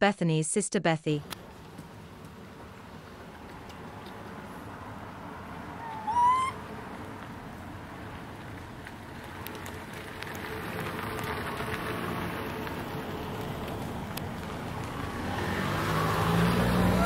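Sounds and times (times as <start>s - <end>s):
vehicle engine running: 1.3s - 5.9s, 6.6s - 17.0s.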